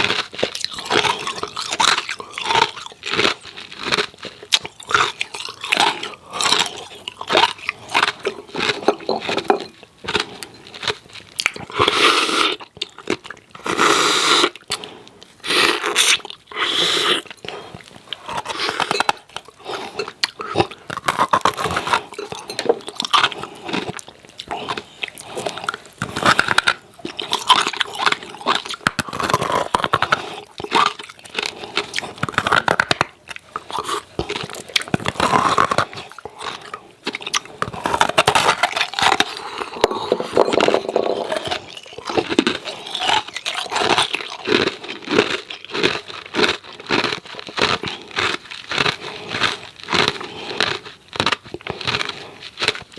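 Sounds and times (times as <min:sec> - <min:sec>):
ice cubes crunched and chewed: 0:00.0 - 0:52.9.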